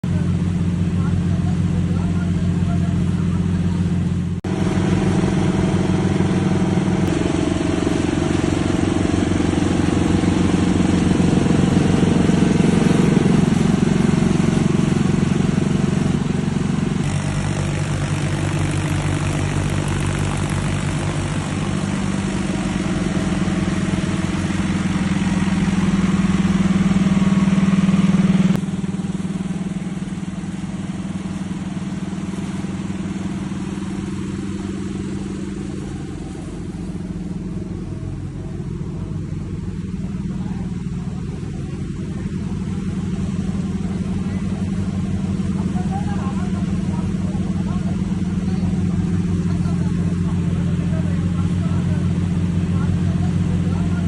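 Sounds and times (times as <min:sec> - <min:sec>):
air compressor engine running: 0:00.0 - 0:54.0.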